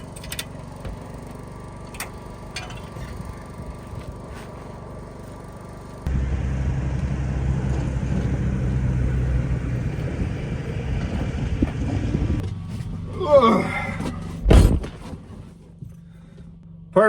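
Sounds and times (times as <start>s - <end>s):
pickup truck engine rumble: 0.0s - 16.8s.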